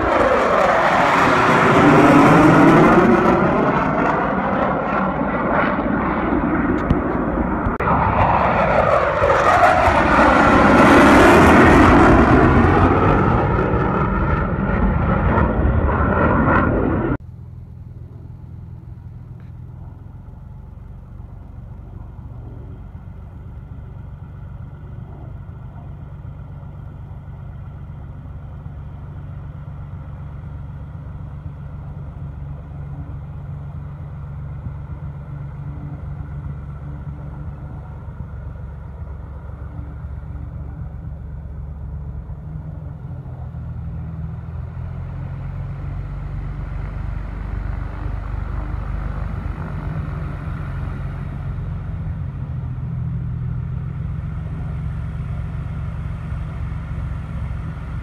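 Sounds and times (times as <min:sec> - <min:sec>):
light airplane engine droning: 0:00.0 - 0:58.0.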